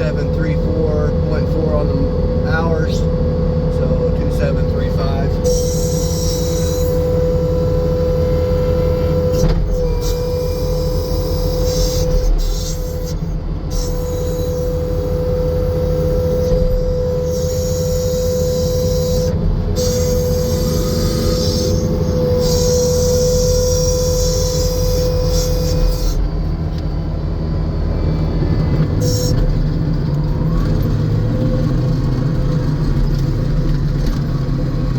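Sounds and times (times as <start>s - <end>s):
constant high whine: 0.0s - 34.9s
diesel engine rumbling: 0.0s - 34.9s.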